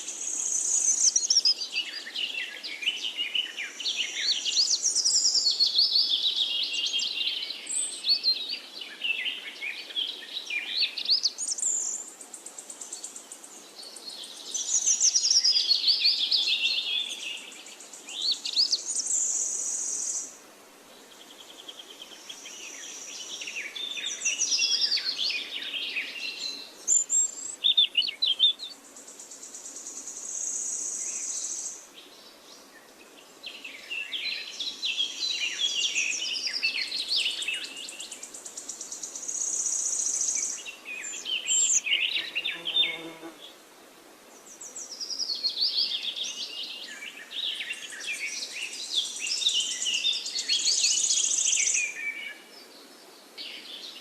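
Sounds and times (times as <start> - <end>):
songbirds singing: 0.0 - 43.6, 44.2 - 54.0.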